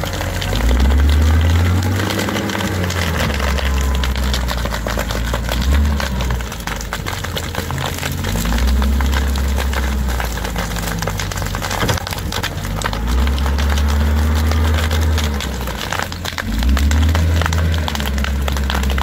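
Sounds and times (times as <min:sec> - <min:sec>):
burning brush crackling: 0:00.0 - 0:19.0
wheel loader diesel engine: 0:00.0 - 0:19.0.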